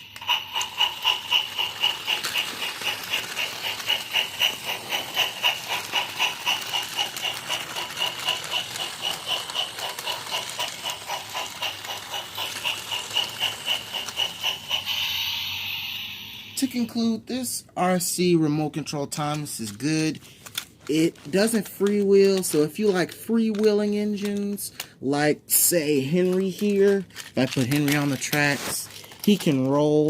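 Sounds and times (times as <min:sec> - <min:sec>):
steam chuffing sound effect: 0:00.0 - 0:30.0
toy train running on plastic track: 0:00.0 - 0:30.0.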